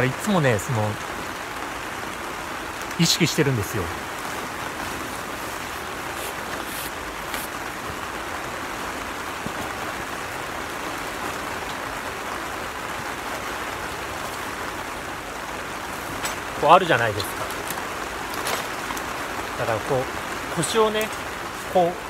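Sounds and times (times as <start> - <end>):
rain on plastic film: 0.0 - 22.0.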